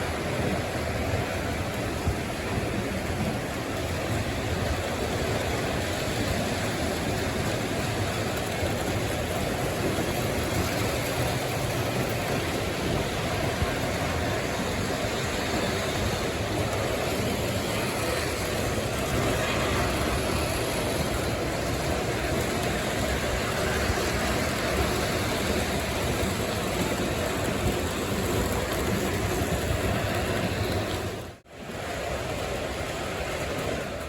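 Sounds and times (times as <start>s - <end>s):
model trains rumbling: 0.0s - 34.0s.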